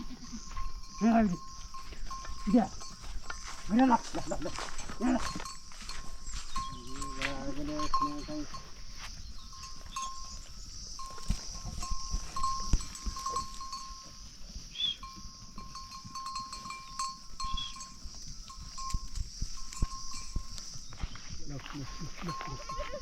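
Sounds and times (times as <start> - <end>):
thin ringing tone: 0.0 - 8.8, 9.4 - 14.2, 15.0 - 20.6
goats: 0.0 - 23.0.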